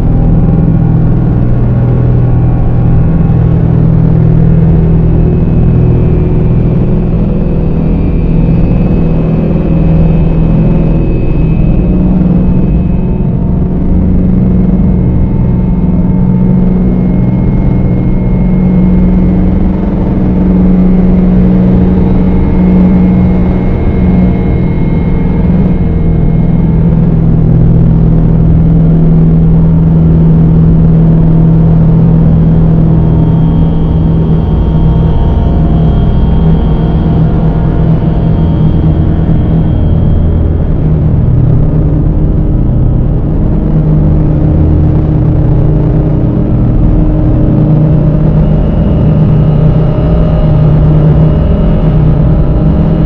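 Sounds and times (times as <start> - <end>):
dark ambient drone music: 0.0 - 53.0.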